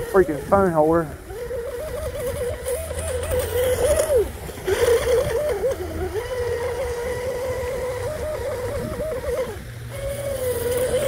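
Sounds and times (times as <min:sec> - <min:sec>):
boat motor whining: 0:00.0 - 0:11.0.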